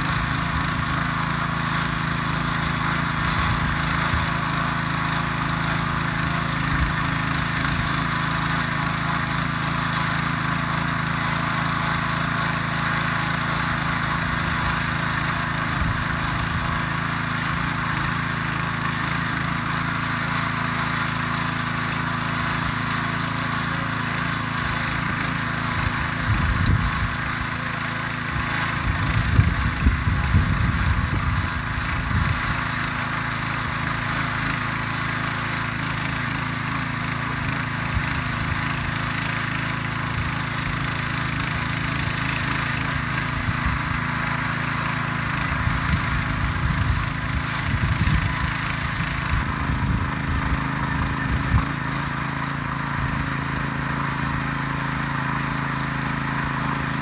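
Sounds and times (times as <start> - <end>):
motor hoe running: 0.0 - 57.0
tines churning soil: 0.0 - 57.0.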